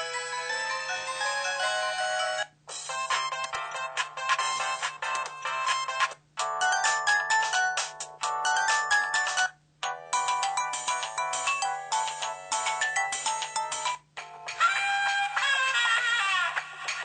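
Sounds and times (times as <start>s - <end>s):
polyphonic phone ringtone melodies: 0.0s - 15.0s.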